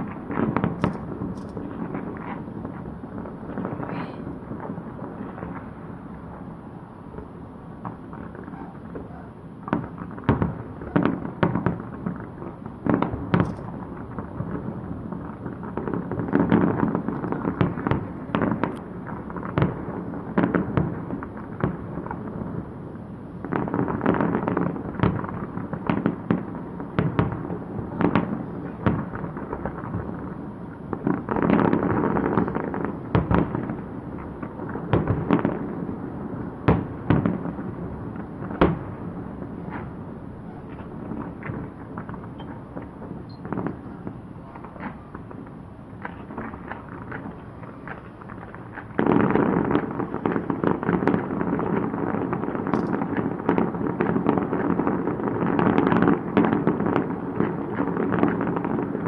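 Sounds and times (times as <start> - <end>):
continuous rumble: 0.0 - 59.0
fireworks bangs: 0.0 - 59.0.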